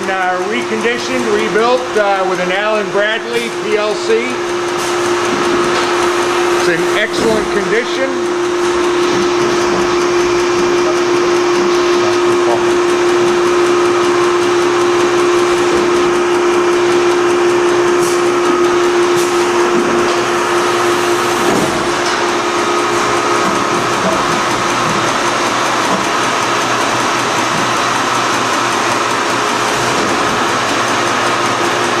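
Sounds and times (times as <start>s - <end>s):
machine droning: 0.0s - 32.0s.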